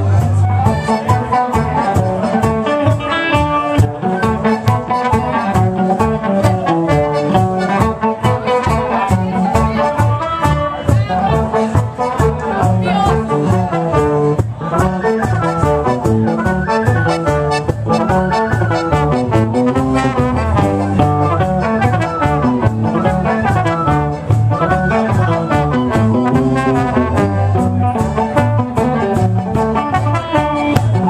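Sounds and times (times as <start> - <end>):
bass line: 0.0 - 31.0
live band playing fast instrumental: 0.0 - 31.0
steady drum beat: 0.0 - 31.0.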